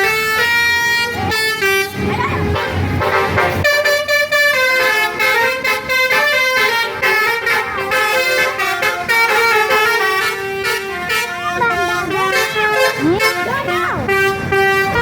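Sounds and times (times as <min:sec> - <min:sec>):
bus musical horns playing tune: 0:00.0 - 0:15.0.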